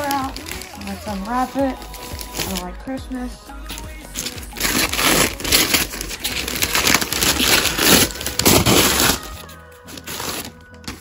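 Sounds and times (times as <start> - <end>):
paper tearing and crumpling: 0.0 - 2.8, 3.7 - 11.0.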